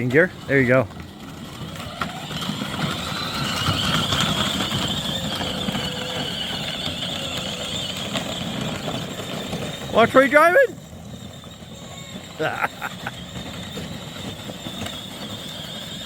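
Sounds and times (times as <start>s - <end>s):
wheels rumbling: 0.0s - 16.0s
electric motor whine: 0.4s - 16.0s.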